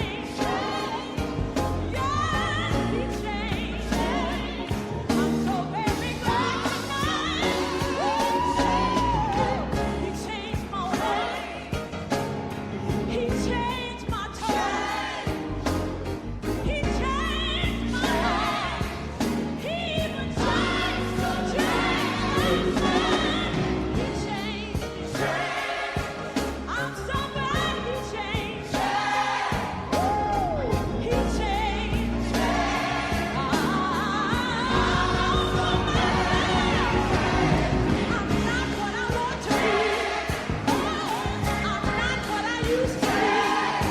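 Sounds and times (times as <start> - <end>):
bass: 0.0 - 43.9
gospel singing with vibrato: 0.0 - 43.9
steady drumbeat: 0.0 - 43.9.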